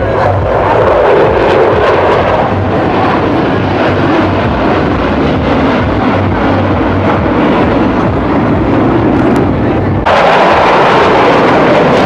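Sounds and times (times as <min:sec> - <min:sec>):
jet engines roaring overhead: 0:00.0 - 0:12.0.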